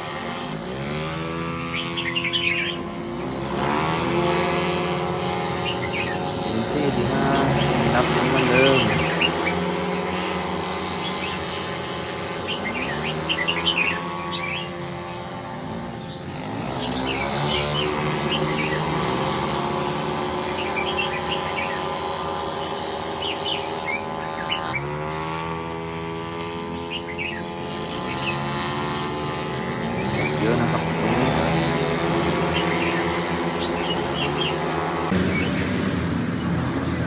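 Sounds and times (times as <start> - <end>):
birds chirping: 0.0 - 37.0
race car engines revving: 0.0 - 37.0.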